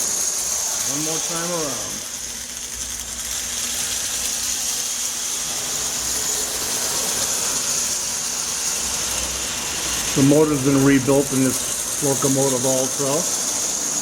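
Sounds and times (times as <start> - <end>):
toy train motor whirring: 0.0 - 14.0.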